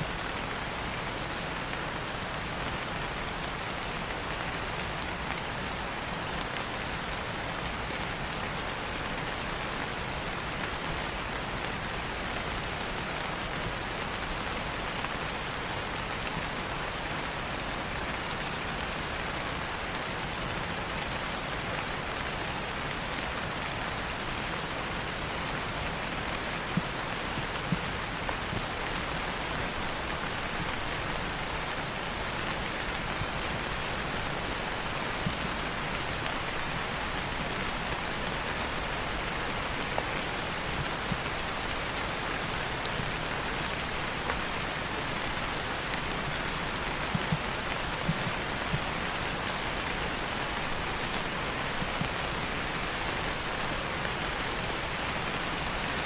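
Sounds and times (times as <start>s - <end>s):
sharp raindrops: 0.0s - 56.0s
steady rain hiss: 0.0s - 56.0s.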